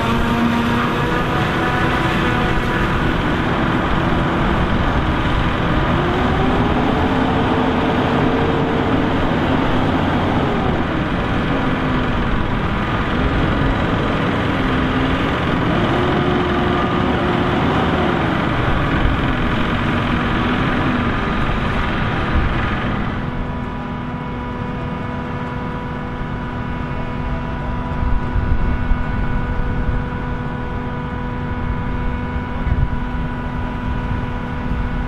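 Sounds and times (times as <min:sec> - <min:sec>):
heavy diesel engines under load: 0:00.0 - 0:35.0.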